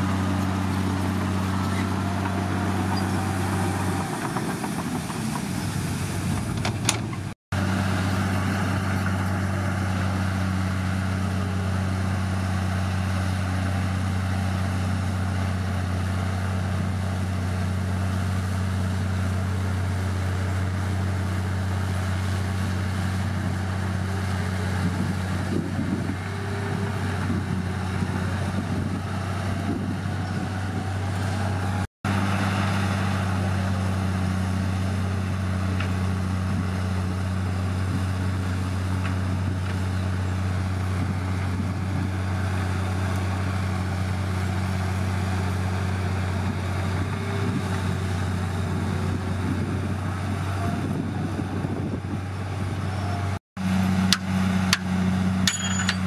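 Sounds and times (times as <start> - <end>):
bulldozer diesel engine droning: 0.0 - 56.0.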